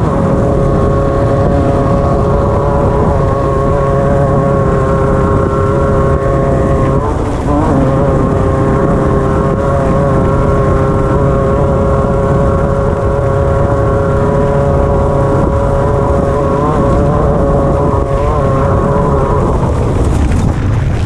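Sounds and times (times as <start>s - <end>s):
race car engine at high revs: 0.0s - 21.0s.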